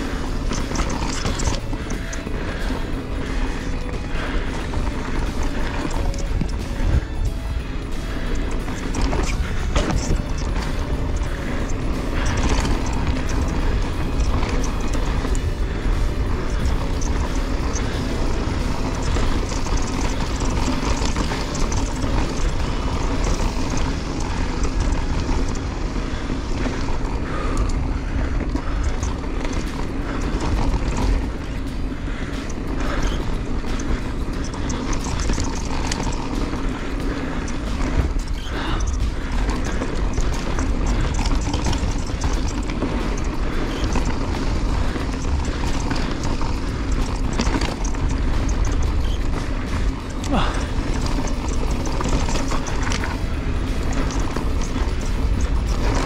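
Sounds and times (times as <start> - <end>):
bike chain and frame rattle: 0.0 - 56.0
tyres on dirt and stones: 0.0 - 56.0
wind rumble on microphone: 0.0 - 56.0.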